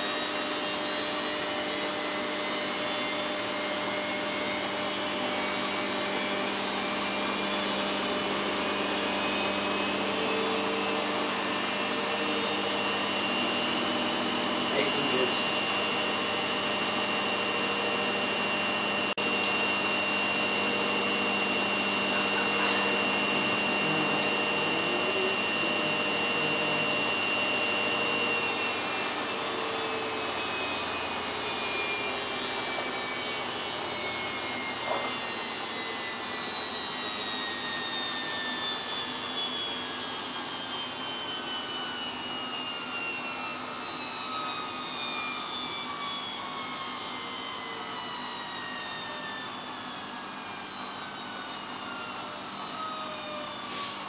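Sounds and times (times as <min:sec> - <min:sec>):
motor whine: 0:00.0 - 0:54.0.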